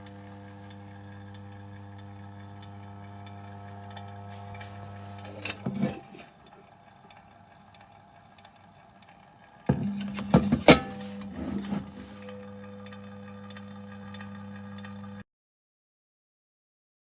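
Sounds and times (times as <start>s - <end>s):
rotisserie motor humming: 0.0s - 15.2s.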